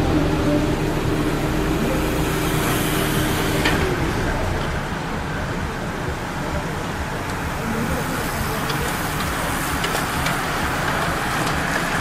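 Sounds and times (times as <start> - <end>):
steady hum: 0.0 - 11.6
bicycle tyres and chains whirring: 0.0 - 12.0.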